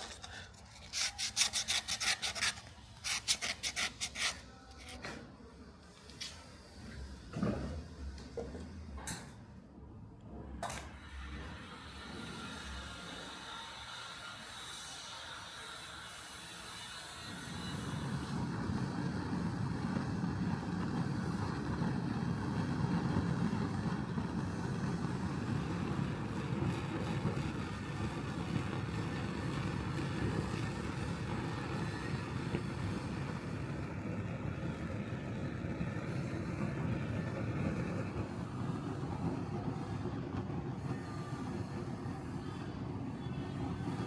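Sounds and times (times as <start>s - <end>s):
low mechanical running noise: 0.0s - 44.0s.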